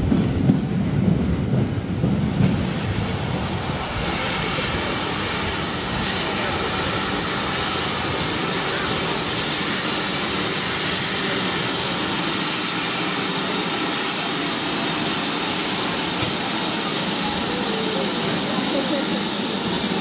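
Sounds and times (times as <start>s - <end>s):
steam hissing: 0.0s - 20.0s
steam locomotive moving slowly: 0.0s - 20.0s.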